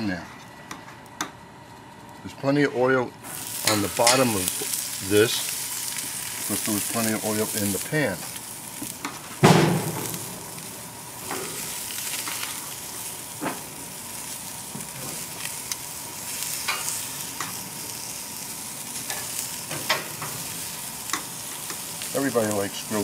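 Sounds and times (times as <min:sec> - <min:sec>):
vegetables sizzling on a grill: 0:03.2 - 0:23.0.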